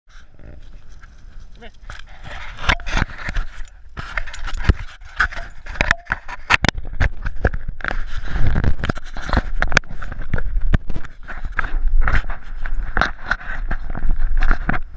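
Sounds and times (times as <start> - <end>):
camera handling clicks and scrapes: 1.8 - 14.9.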